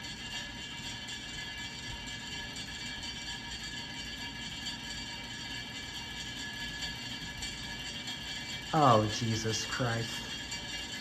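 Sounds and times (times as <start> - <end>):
ceiling fan running: 0.0 - 11.0
scraping grinding noise: 0.0 - 11.0.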